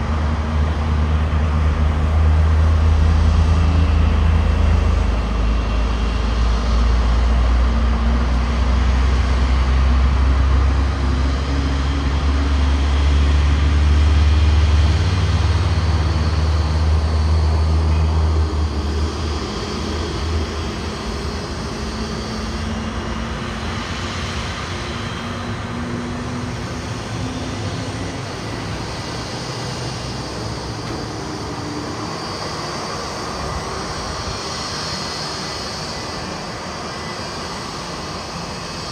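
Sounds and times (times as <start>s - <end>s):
jet engine hiss and whine: 0.0s - 38.9s.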